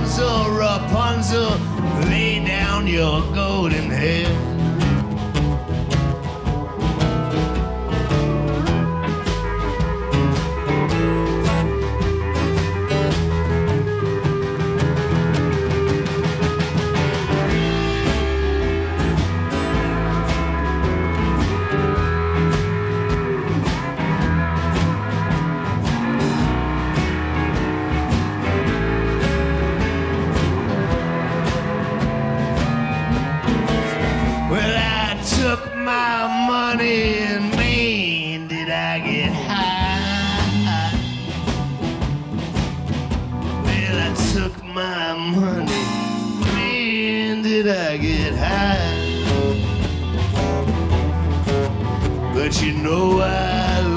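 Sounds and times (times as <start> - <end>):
drum beat: 0.0 - 38.5, 39.1 - 45.0, 45.6 - 53.9
bass line: 0.0 - 53.9
guitars: 0.0 - 53.9
live blues-rock band playing: 0.0 - 53.9.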